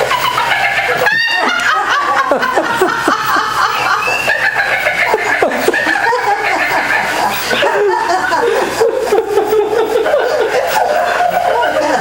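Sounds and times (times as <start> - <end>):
hearty laughter: 0.0 - 12.0.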